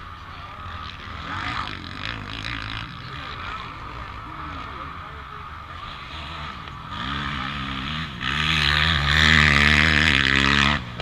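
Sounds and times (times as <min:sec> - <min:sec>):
small motorbike engine revving: 0:00.0 - 0:11.0.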